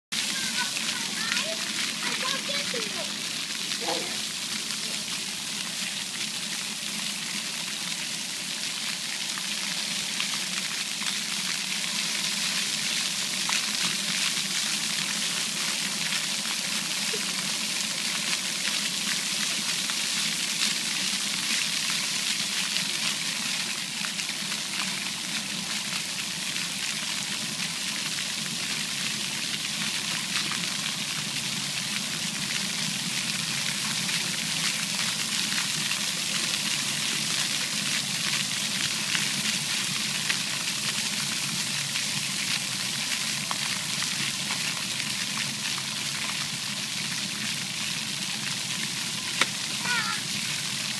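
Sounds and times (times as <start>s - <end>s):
fountain jets spraying water: 0.1s - 50.9s.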